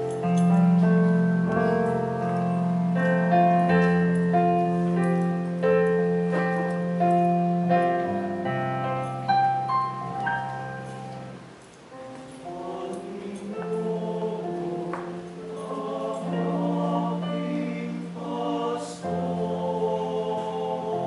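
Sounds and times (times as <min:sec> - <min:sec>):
church music on keyboard: 0:00.0 - 0:21.0.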